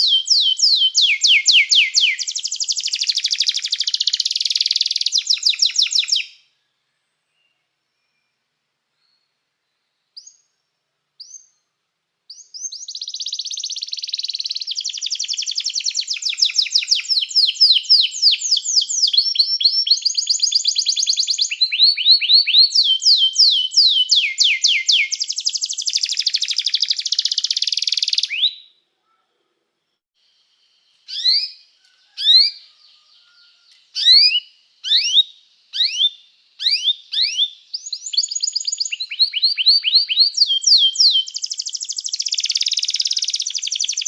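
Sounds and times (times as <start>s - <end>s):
canary singing trills: 0.0s - 6.4s, 12.3s - 28.7s, 31.0s - 44.0s.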